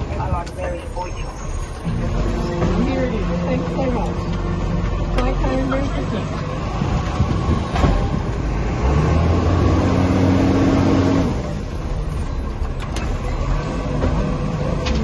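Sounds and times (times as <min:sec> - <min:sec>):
garbage truck engine revving: 0:01.5 - 0:15.0.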